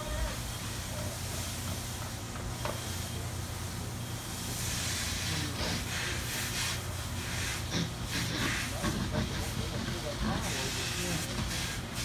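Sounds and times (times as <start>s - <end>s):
water hissing on fire: 0.0s - 12.0s.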